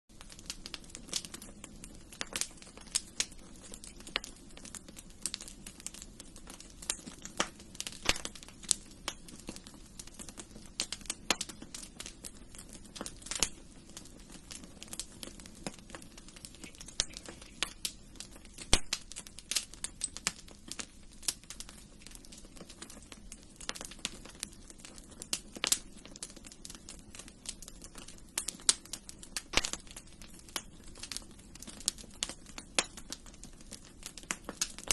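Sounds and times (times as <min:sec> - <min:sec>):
soft rush of flames: 0:00.1 - 0:34.9
wood fire crackling: 0:00.1 - 0:34.9.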